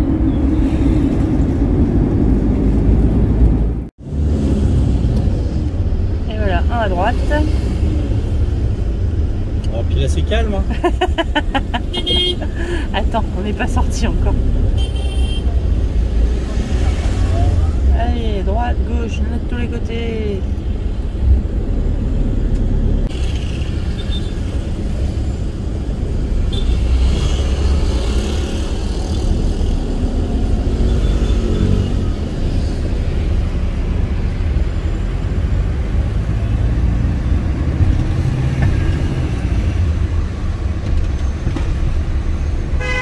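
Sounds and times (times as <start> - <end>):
van engine and tyres rumbling: 0.0 - 43.0.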